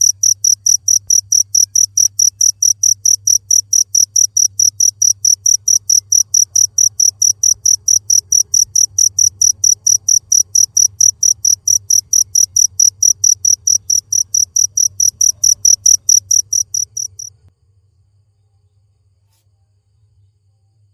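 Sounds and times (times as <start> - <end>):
cricket chirping: 0.0 - 17.5.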